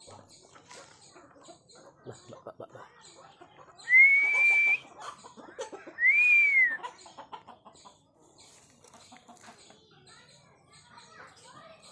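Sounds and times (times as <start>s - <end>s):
fowl clucking and pecking: 0.0s - 11.8s.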